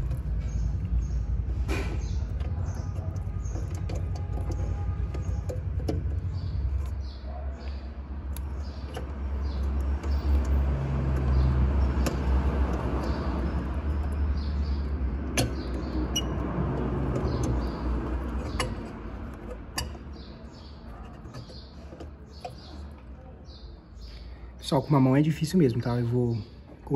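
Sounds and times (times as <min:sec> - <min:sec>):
plastic parts clicking and scraping: 0:00.0 - 0:23.2
small birds chirping: 0:00.0 - 0:26.9.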